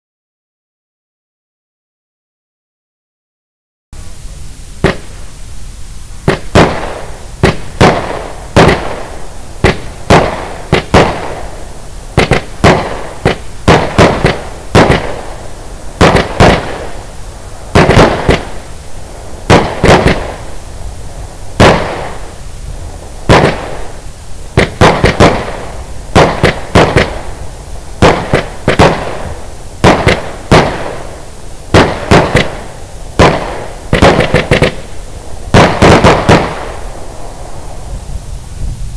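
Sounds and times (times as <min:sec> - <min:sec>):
firework crackle: 0:04.0 - 0:38.9
firework bangs: 0:04.2 - 0:05.4, 0:06.0 - 0:38.7.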